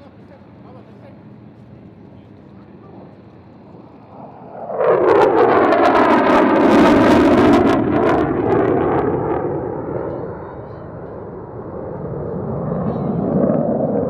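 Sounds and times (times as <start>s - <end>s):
jet engine roar with crackling: 0.0s - 14.0s.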